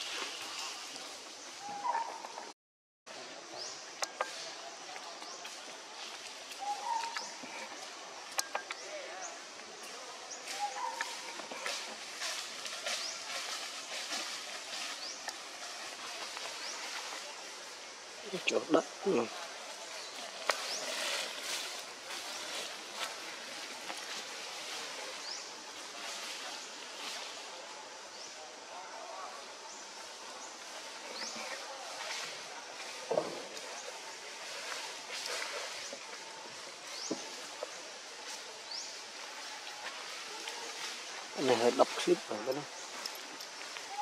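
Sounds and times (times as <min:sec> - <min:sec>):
birds chirping: 0:00.0 - 0:02.5, 0:03.1 - 0:44.0
outdoor background hiss: 0:00.0 - 0:44.0.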